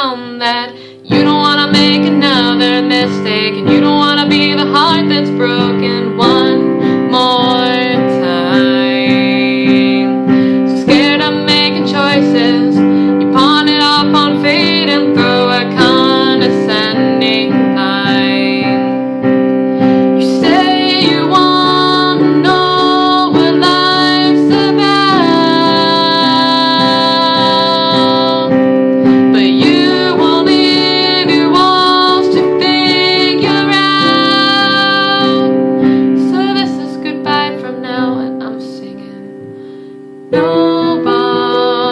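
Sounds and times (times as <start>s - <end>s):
piano accompaniment: 0.0s - 41.9s
woman singing slow song: 0.0s - 41.9s.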